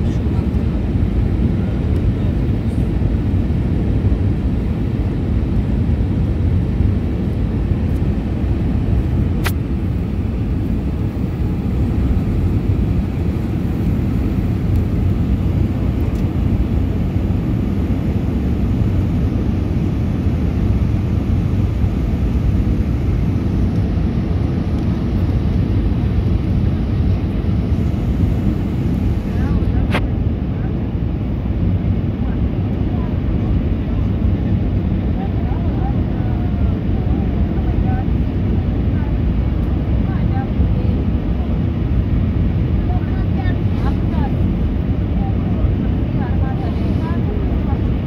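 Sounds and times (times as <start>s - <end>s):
jet engine cabin noise: 0.0s - 48.0s.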